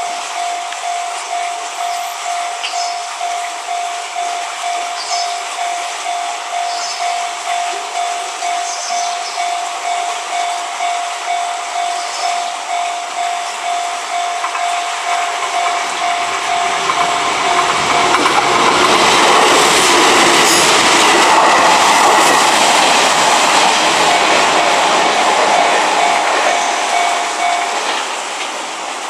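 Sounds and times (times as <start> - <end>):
level-crossing warning bell: 0.0 - 28.8
train passing with wheel clatter: 0.0 - 29.0.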